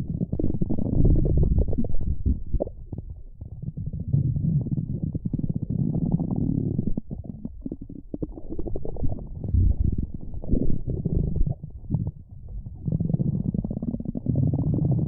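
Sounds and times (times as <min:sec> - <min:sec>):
stomach growling: 0:00.0 - 0:15.0.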